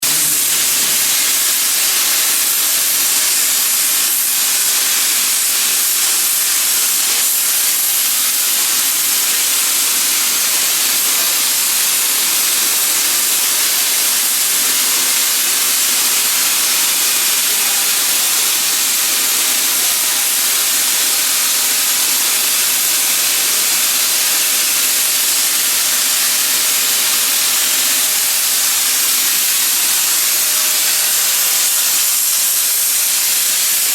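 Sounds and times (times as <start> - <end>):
cutting torch hissing loudly: 0.0 - 33.9.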